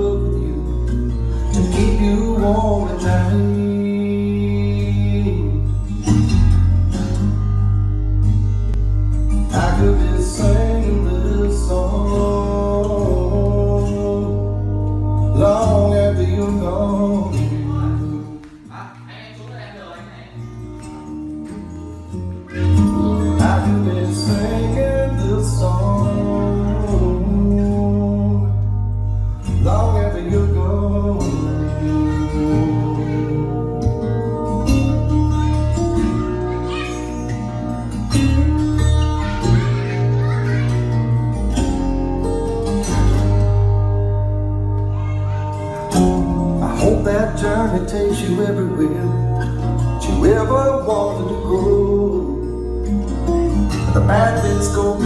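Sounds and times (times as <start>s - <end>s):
acoustic guitar song: 0.0s - 55.0s.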